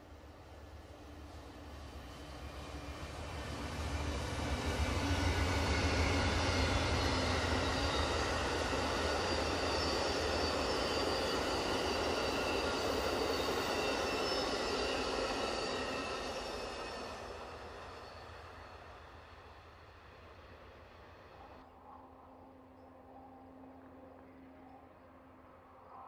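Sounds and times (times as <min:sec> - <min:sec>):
train wheels rumbling on rails: 0:00.0 - 0:21.6
diesel locomotive drone: 0:00.0 - 0:26.0.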